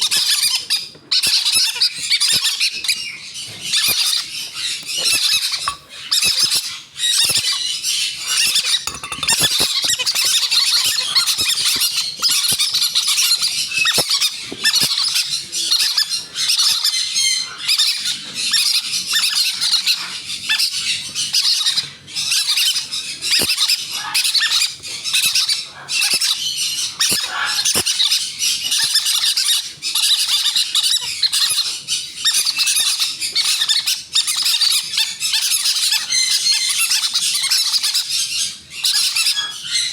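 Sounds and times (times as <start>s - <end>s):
parrot chicks squeaking: 0.0s - 39.9s.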